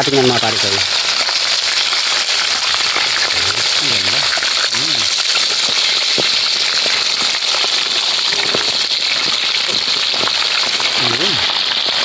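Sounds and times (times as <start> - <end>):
oil sizzling while deep-frying: 0.0 - 12.0.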